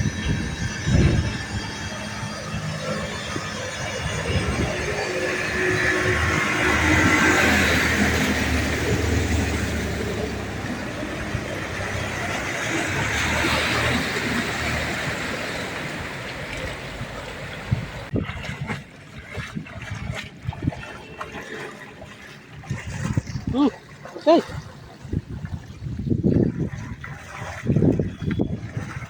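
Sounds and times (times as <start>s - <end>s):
floodwater rushing: 0.0s - 29.0s
low rumble: 0.0s - 29.0s.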